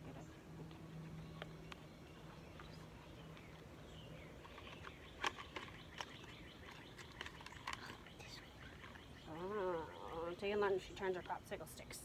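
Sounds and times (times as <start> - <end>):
faint bird chirps: 1.2 - 11.4.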